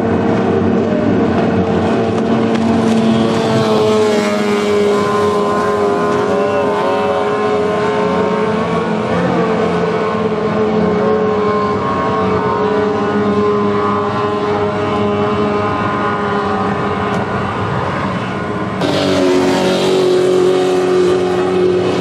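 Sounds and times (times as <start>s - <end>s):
racing outboard motor passing: 0.0s - 22.0s.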